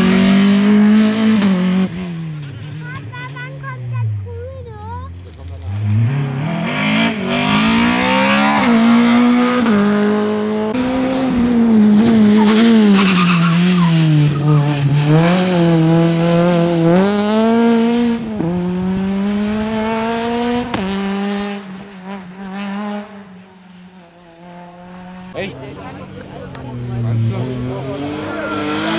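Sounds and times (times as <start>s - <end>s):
rally car engine revving past: 5.7s - 28.9s.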